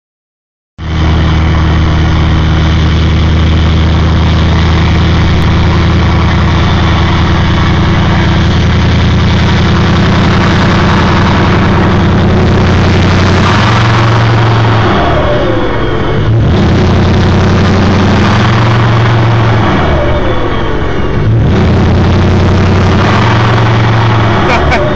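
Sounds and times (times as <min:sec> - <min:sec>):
diesel engine idling: 0:00.8 - 0:24.9
turbocharger whistling: 0:00.8 - 0:24.9.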